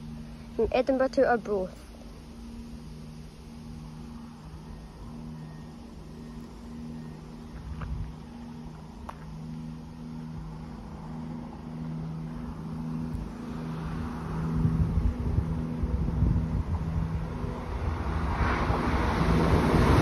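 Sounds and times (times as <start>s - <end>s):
train engine drone: 0.0s - 20.0s.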